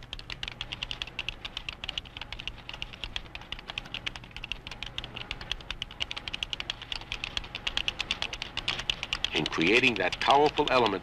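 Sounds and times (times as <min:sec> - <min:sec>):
keyboard typing clicks: 0:00.0 - 0:11.0.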